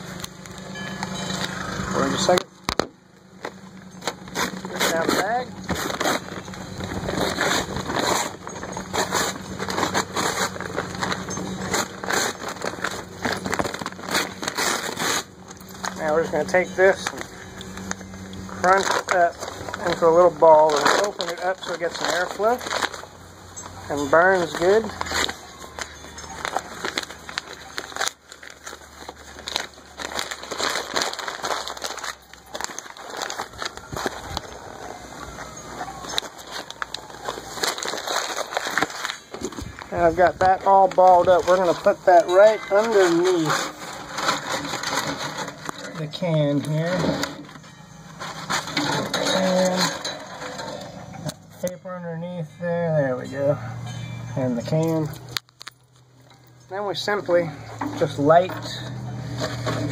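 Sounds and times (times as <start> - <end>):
paper bag tearing and crinkling: 0.0 - 51.7, 56.8 - 59.9.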